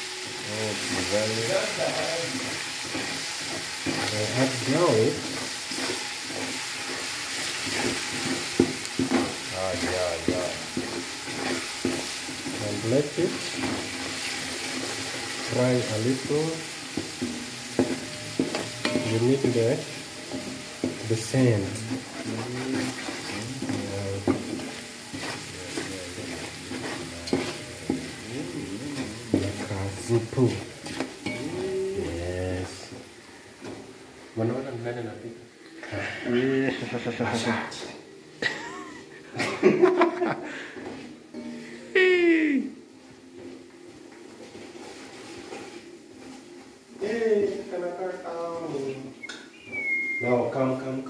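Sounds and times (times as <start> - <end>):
onions frying in oil: 0.0 - 51.0.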